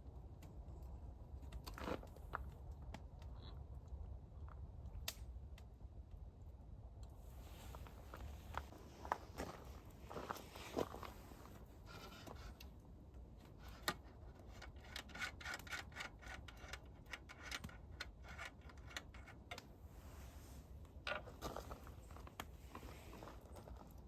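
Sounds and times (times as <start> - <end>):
small clicks and scraping: 0.4 - 5.7, 7.0 - 24.0.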